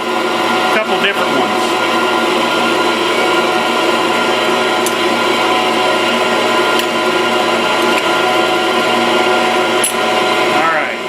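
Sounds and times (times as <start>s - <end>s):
bench grinder running: 0.0s - 11.0s.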